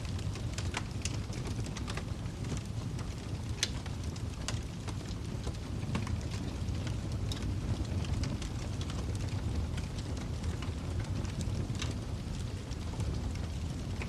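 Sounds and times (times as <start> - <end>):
fire popping and snapping: 0.0 - 14.0
rumble of flames: 0.0 - 14.0.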